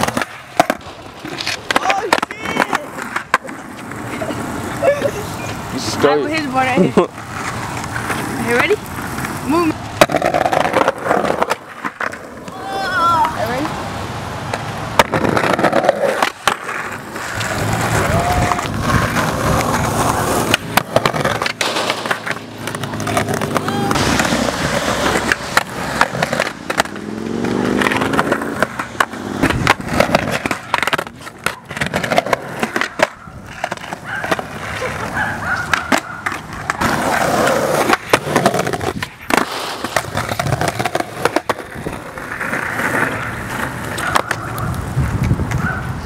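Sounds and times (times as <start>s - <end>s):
skateboard clacks: 0.0s - 13.8s, 14.4s - 46.0s
skateboard wheels rolling: 0.0s - 46.0s.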